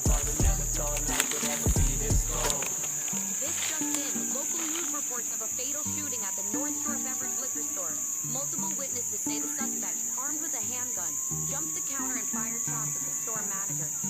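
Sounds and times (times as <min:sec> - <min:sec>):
insects droning: 0:00.0 - 0:14.0
short insect chirps: 0:02.5 - 0:14.0.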